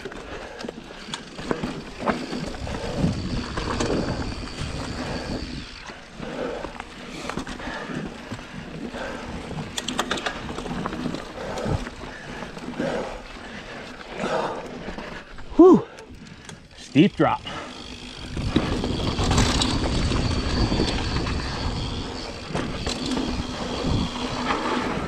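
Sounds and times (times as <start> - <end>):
bike knocking and rattling: 0.0 - 25.0
bike tyres on dirt: 0.0 - 25.0.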